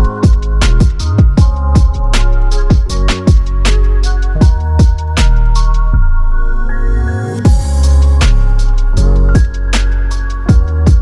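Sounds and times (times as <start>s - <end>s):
punchy electronic drum beat: 0.0s - 5.7s, 7.5s - 11.0s
deep bass line: 0.0s - 11.0s.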